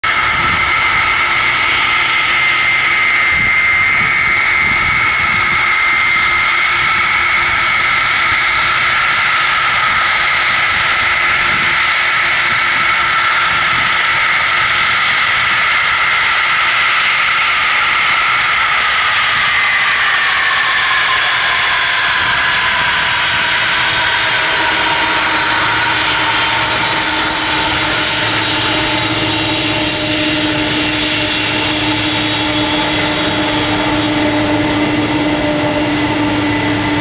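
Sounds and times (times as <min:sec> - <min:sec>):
jet engines whining and roaring: 0:00.0 - 0:37.0.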